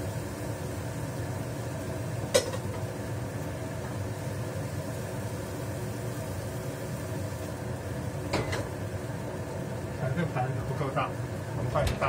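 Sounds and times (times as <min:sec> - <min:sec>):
range hood fan humming: 0:00.0 - 0:12.0.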